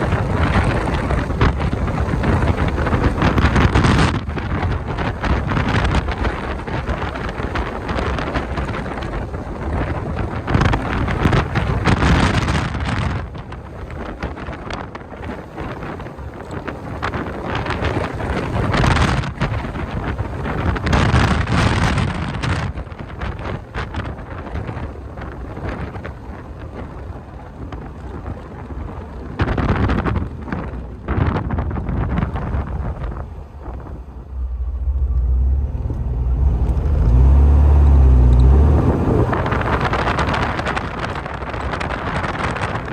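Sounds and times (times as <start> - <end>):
steady low rumble: 0.0 - 42.9
wind buffeting microphone: 0.0 - 42.9.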